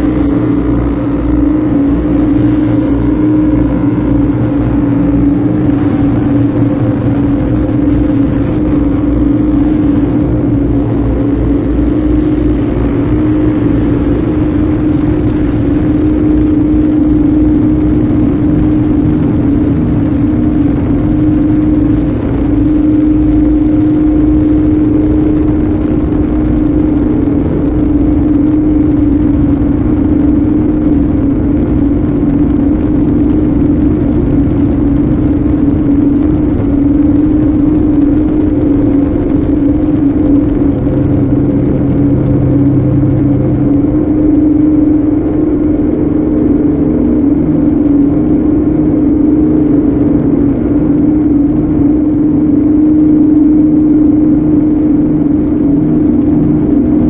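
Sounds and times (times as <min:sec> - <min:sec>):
electronic noise drone: 0:00.0 - 0:57.0
faint high whine: 0:00.0 - 0:57.0.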